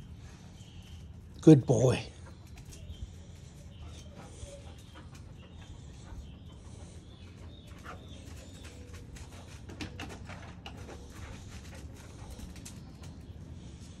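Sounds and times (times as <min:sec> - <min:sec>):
birds calling: 0:00.0 - 0:14.0
steady low hum: 0:00.0 - 0:14.0.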